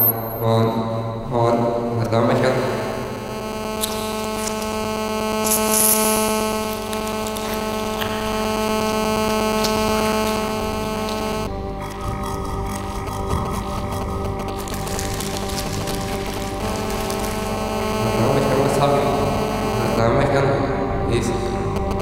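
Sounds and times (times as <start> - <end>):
droning chord music: 0.0 - 22.0.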